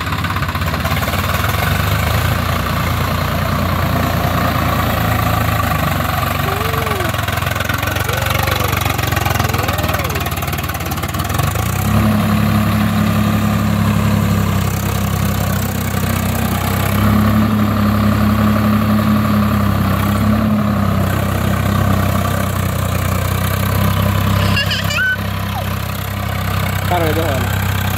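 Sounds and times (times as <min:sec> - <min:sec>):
rotary tiller through soil: 0:00.0 - 0:18.6, 0:19.9 - 0:27.9
tractor diesel engine under load: 0:00.0 - 0:27.9.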